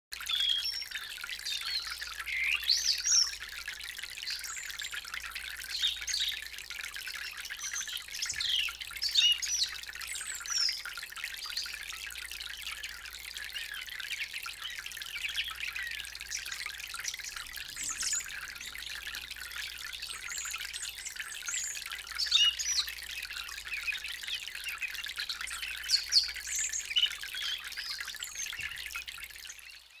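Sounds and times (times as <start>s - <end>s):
fountain water trickling: 0.1s - 30.0s
water drips and plinks: 0.1s - 30.0s.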